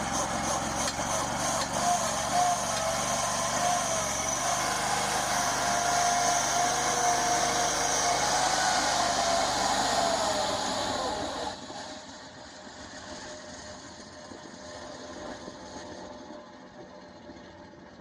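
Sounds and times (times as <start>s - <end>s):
engine running with whine: 0.0s - 18.0s.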